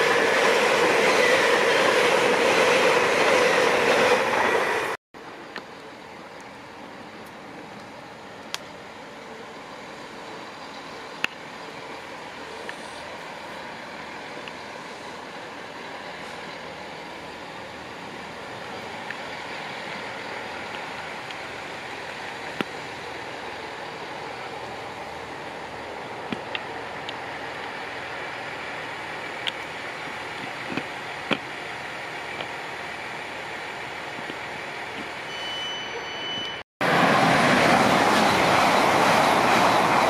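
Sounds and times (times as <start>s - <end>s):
diesel train rumbling: 0.0s - 40.0s.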